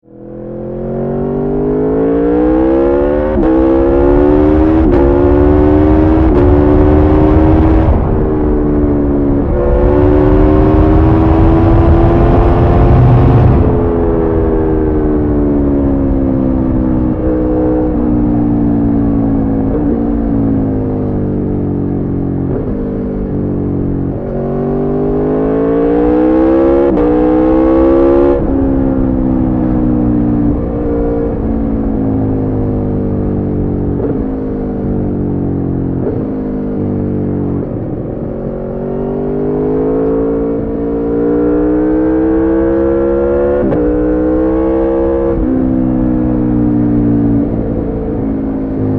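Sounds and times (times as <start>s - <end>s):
motorcycle engine revving: 0.2s - 48.9s.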